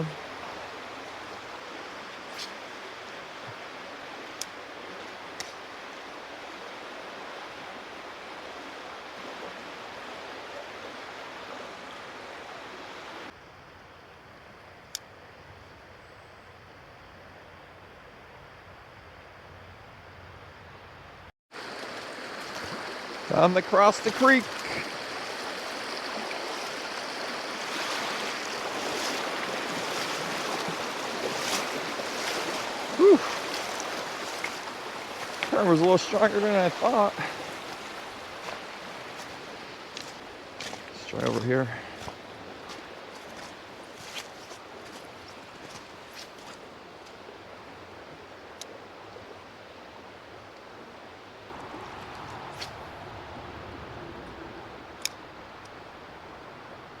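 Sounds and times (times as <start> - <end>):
creek water running: 0.0 - 13.4, 21.5 - 57.0.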